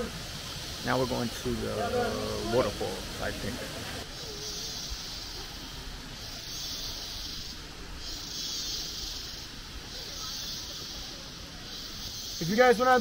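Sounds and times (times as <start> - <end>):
river rushing: 0.0 - 11.6
insects buzzing in chorus: 0.0 - 13.0.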